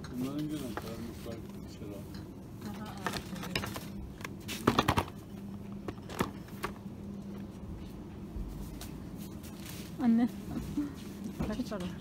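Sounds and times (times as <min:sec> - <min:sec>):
low store hum: 0:00.0 - 0:12.0.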